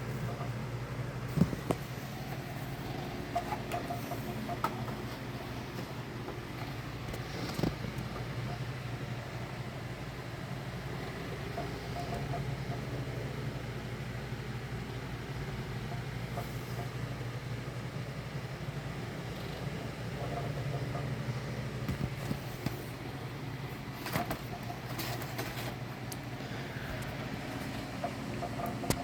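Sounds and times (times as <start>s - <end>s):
machinery humming and whirring: 0.0s - 29.0s.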